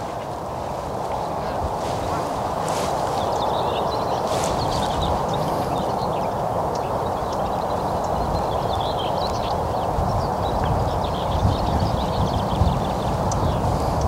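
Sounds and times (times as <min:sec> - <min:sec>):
small birds chirping: 0:00.0 - 0:14.0
wind rumbling on microphone: 0:00.0 - 0:14.0.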